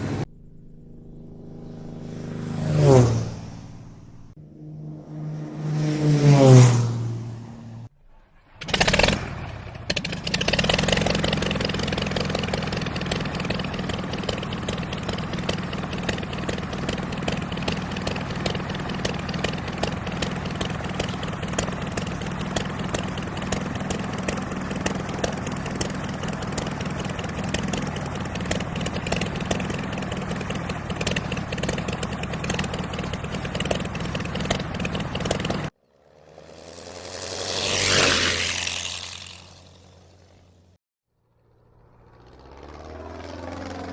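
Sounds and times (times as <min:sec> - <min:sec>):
propeller plane engine: 0:00.0 - 0:43.9.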